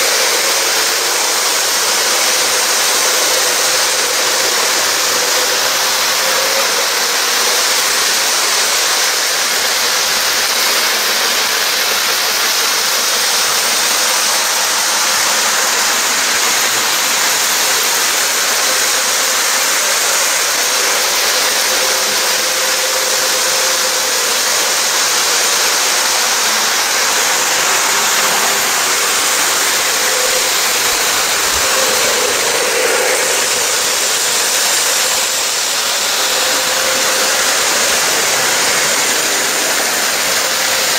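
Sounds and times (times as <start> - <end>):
model trains whirring and rumbling: 0.0 - 40.9.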